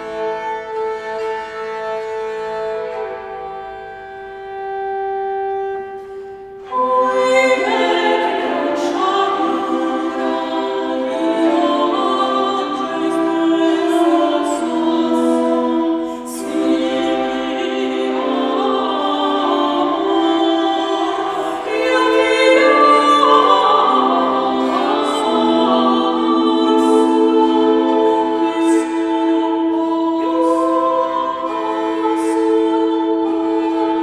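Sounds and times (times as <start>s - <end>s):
women singing: 6.7s - 34.0s.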